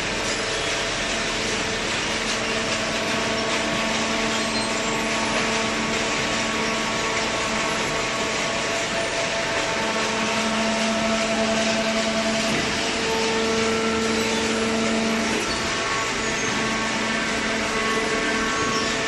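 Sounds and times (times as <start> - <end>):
baler motor and pump whining: 0.0 - 19.0.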